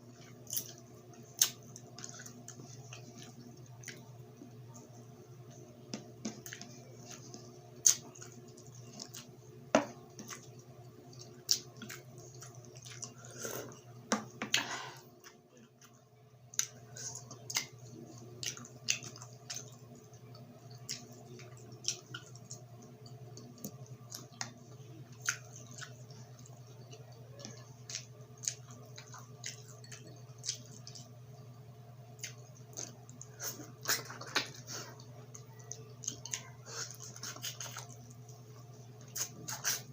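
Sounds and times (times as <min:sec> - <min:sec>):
steady low hum: 0:00.0 - 0:39.9
wet chewing and mouth clicks: 0:00.1 - 0:04.1, 0:06.2 - 0:09.4, 0:10.1 - 0:13.8, 0:15.2 - 0:31.4, 0:32.2 - 0:39.9.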